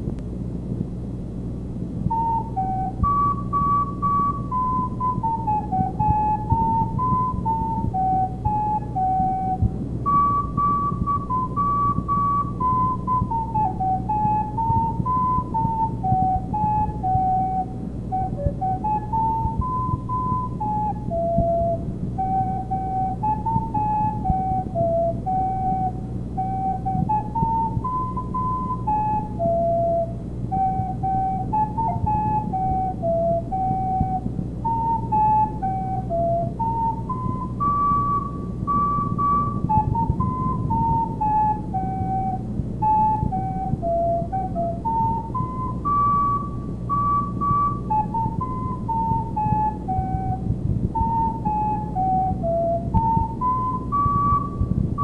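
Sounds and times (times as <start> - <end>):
steady low hum: 0.0 - 55.0
recorder melody: 1.6 - 55.0.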